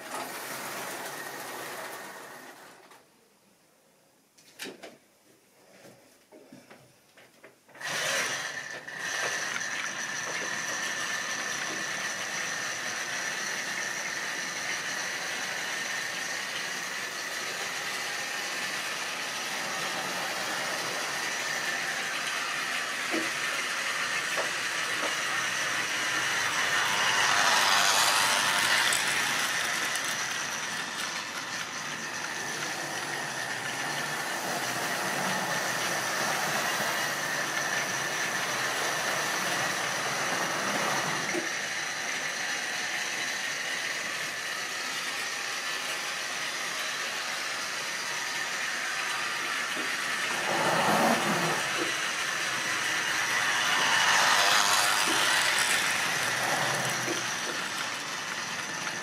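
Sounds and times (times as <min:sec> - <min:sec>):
small electric motor whining: 0:07.8 - 0:59.0.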